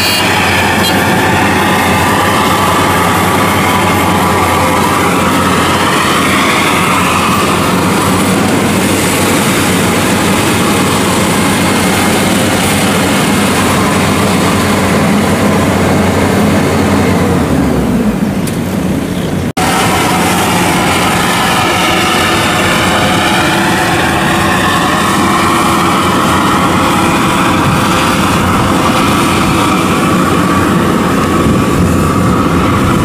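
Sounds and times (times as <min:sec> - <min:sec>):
combine harvester drone: 0:00.0 - 0:33.0.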